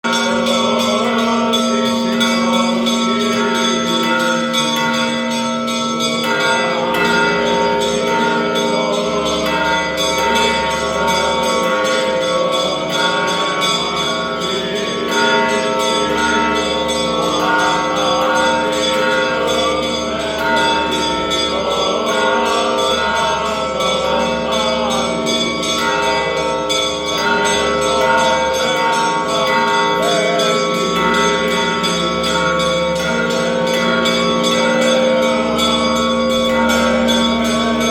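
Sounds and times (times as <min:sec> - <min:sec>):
church bells ringing: 0:00.0 - 0:37.9.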